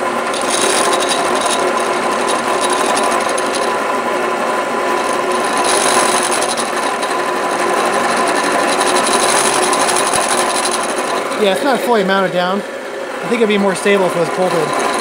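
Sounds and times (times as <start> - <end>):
drill press milling metal: 0.0 - 15.0.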